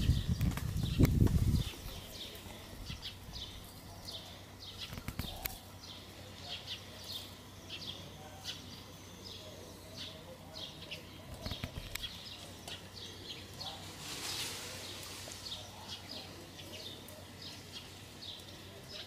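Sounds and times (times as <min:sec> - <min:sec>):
faint steady hum: 0:00.0 - 0:19.0
small birds chirping: 0:00.0 - 0:19.0.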